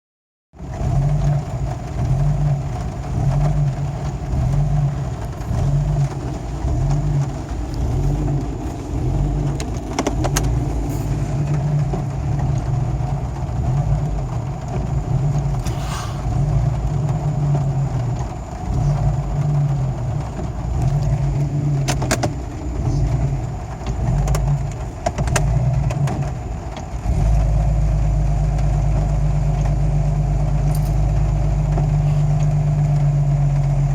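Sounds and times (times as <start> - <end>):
car engine idling roughly: 0.6 - 33.9.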